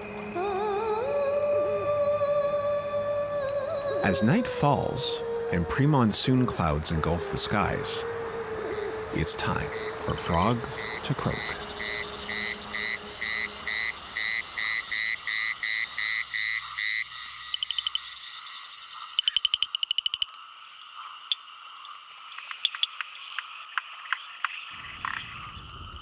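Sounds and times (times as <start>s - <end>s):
frogs calling: 2.7s - 26.0s.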